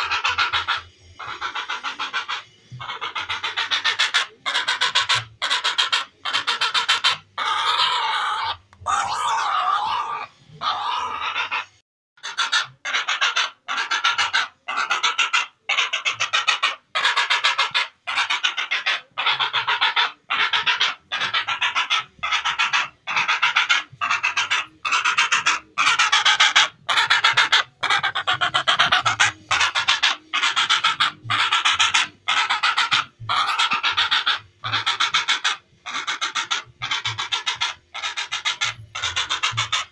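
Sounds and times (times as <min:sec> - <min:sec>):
heron giving harsh raspy calls: 0:00.0 - 0:39.9.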